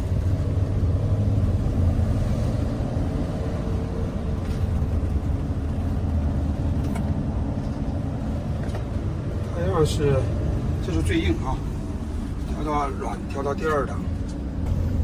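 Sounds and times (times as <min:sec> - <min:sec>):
tyres and engine rumble: 0:00.0 - 0:15.0.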